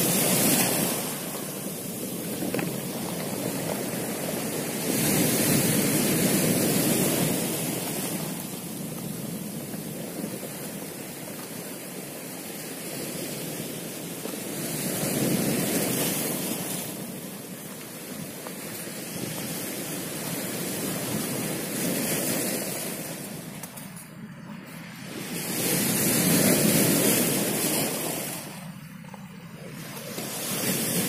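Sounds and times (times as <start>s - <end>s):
surf washing onto pebbles: 0.0s - 31.0s.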